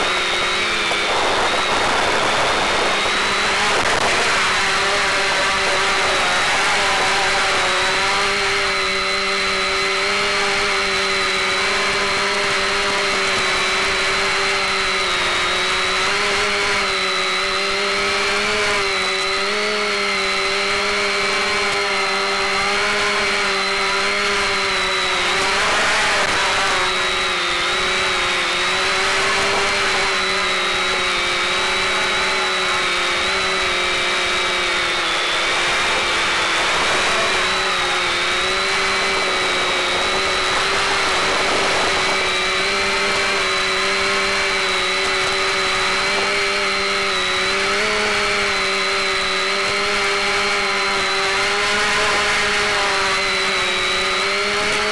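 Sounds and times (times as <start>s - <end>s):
drone motors whining: 0.0s - 54.9s
steady low buzz: 0.0s - 54.9s.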